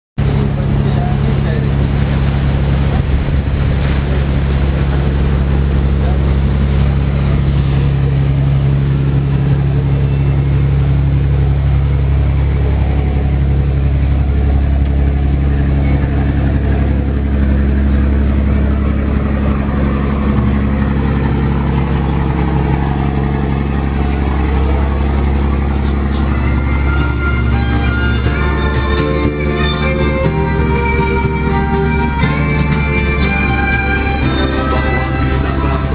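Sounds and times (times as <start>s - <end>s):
boat engine droning: 0.2s - 35.9s.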